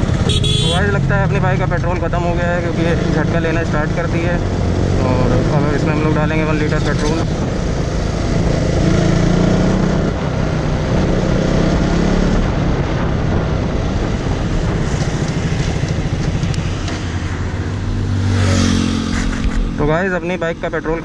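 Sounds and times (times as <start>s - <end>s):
wind noise: 0.0s - 19.9s
motorcycle engine stuttering: 0.0s - 21.0s.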